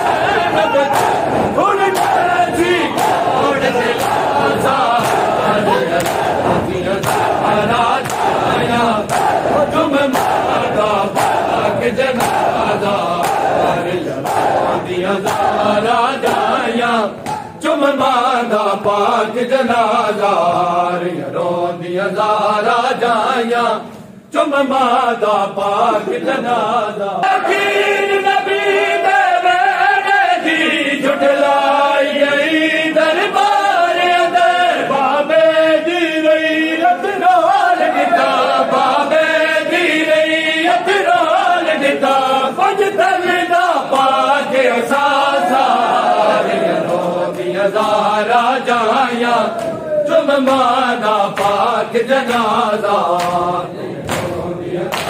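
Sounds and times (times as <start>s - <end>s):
men chanting a lament: 0.0s - 55.0s.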